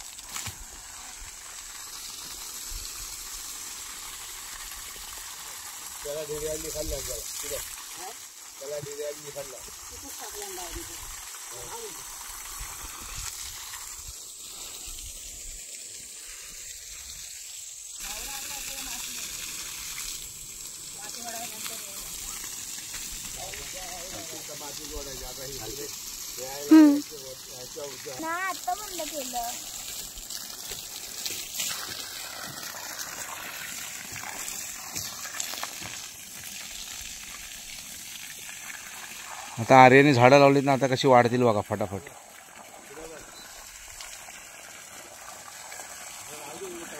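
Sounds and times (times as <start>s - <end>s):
garden hose spraying water: 0.0s - 46.9s.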